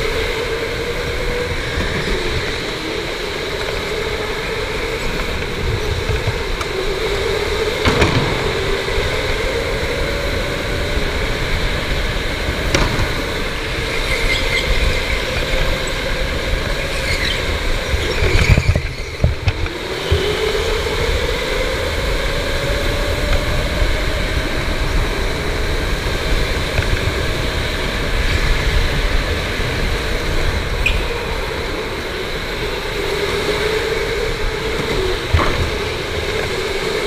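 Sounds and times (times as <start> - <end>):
electric go-kart motor whining: 0.0 - 37.0
rumble of tyres: 0.0 - 37.0
wind: 0.0 - 37.0.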